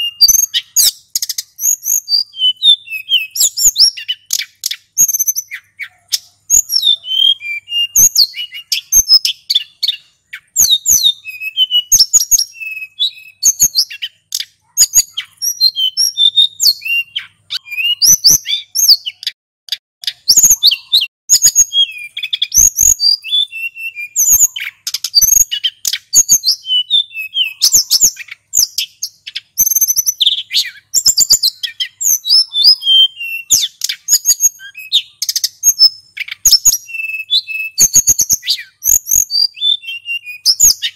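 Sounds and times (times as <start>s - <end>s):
bird singing whistles and trills: 0.0s - 19.4s, 20.0s - 40.9s.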